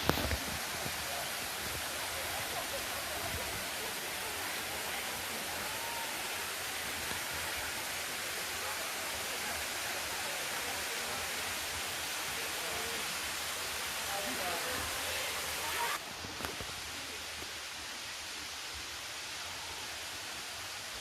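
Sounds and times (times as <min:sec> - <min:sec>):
waterfall rushing over rock: 0:00.0 - 0:21.0.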